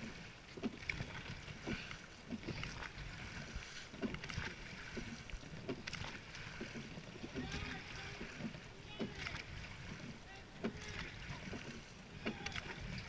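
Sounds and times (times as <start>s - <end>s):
oar blades splashing water: 0.0s - 13.0s
oars knocking in oarlocks: 0.0s - 13.0s.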